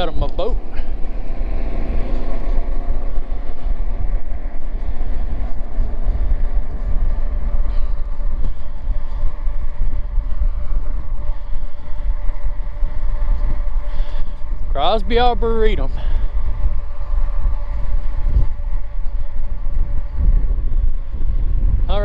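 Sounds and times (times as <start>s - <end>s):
steady droning hum: 0.0s - 22.0s
wind rumbling on microphone: 0.0s - 22.0s.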